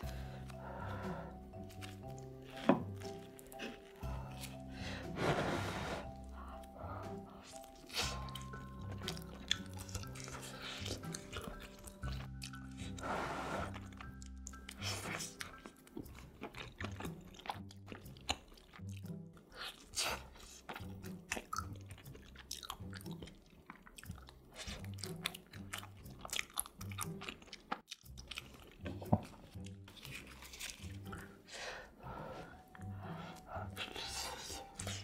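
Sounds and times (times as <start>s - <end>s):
person chewing: 0.0s - 5.2s, 6.1s - 35.0s.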